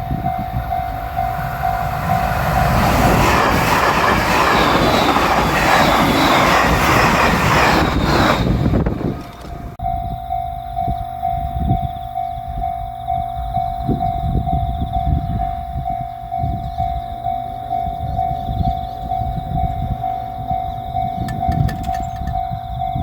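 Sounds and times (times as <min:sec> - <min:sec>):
railroad crossing bell ringing: 0:00.0 - 0:06.8, 0:07.9 - 0:23.0.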